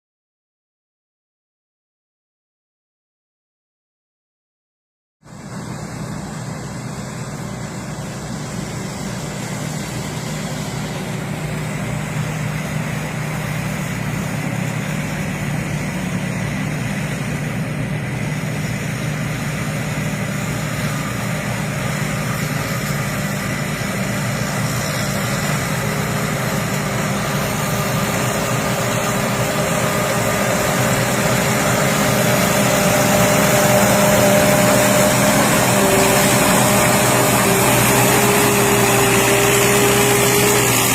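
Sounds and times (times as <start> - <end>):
combine harvester engine and threshing: 5.2 - 40.9
high-pitched whine: 5.3 - 40.9.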